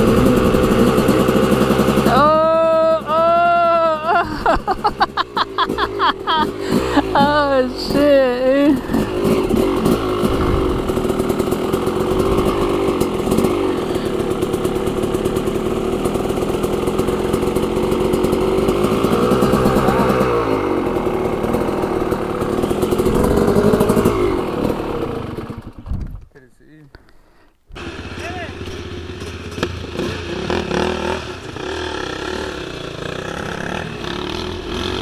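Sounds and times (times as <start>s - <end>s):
dirt bike idling: 0.0s - 26.0s, 27.7s - 35.0s
second dirt bike approaching: 0.0s - 26.0s, 27.7s - 35.0s.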